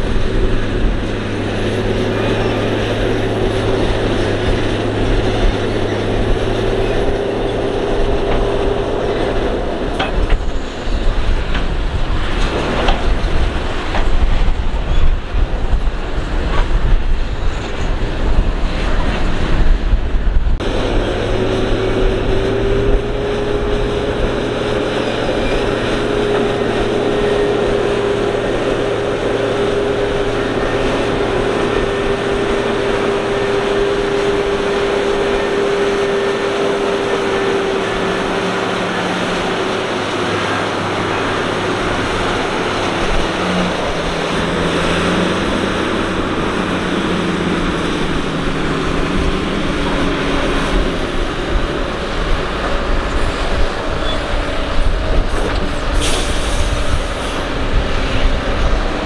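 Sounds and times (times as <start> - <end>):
excavator engine with hydraulic whine: 0.0 - 59.0.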